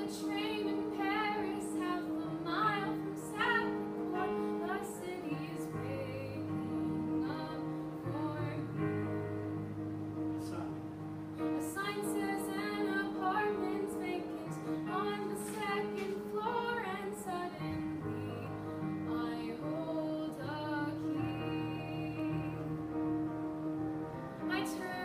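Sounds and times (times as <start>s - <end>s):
girl singing: 0.0s - 9.1s, 11.5s - 22.7s, 24.5s - 25.0s
instrumental accompaniment: 0.0s - 25.0s.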